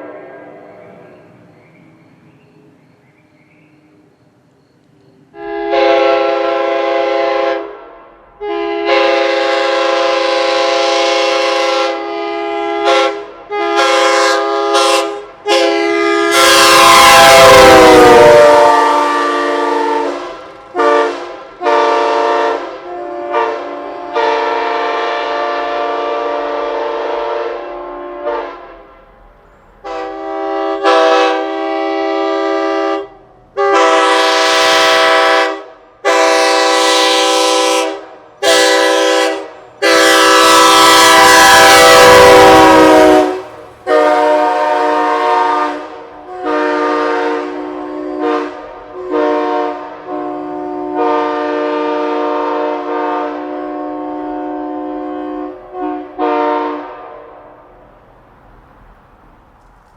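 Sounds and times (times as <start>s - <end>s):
train horn chord blasts: 5.3s - 29.0s, 29.8s - 57.6s.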